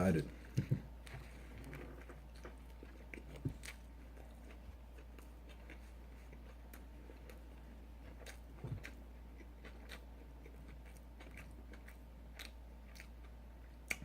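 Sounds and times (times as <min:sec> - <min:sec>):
person chewing food: 0:00.1 - 0:14.0.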